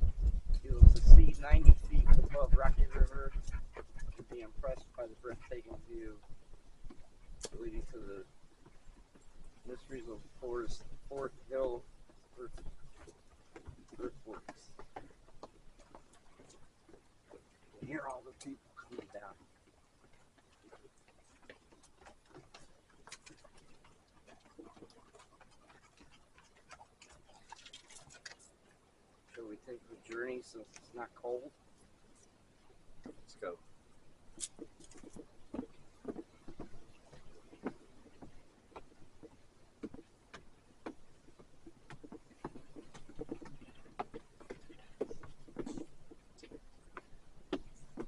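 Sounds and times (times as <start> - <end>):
footsteps on outdoor stairs: 0.0 - 48.0.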